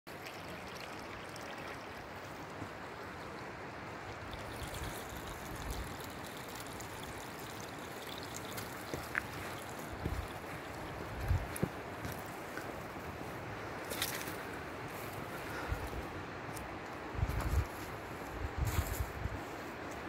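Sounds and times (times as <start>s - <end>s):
creek rushing: 0.1s - 17.2s.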